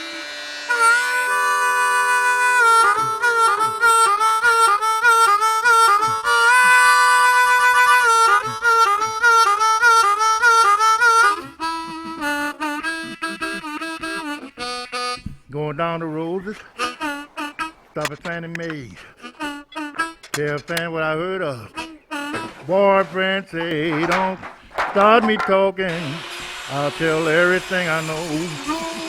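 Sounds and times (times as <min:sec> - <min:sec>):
slow blues harmonica: 0:00.0 - 0:29.0.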